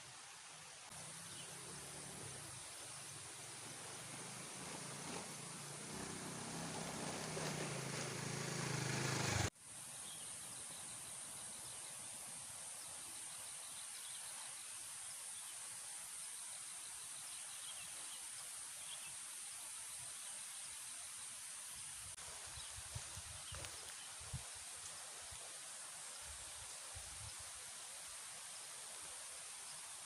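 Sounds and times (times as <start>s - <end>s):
insects or birds chirping: 0.0s - 30.0s
steady high hiss: 0.0s - 30.0s.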